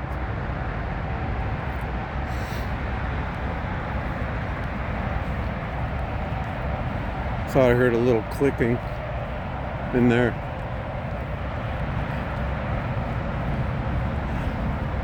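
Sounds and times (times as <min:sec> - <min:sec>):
distant highway traffic: 0:00.0 - 0:15.0.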